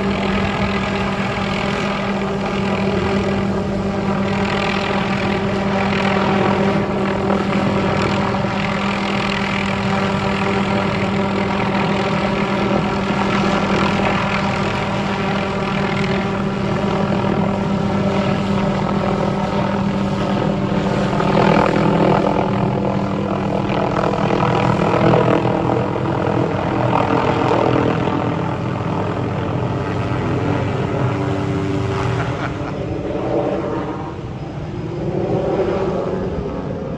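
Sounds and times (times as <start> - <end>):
helicopter turbine and rotors humming: 0.0 - 36.9.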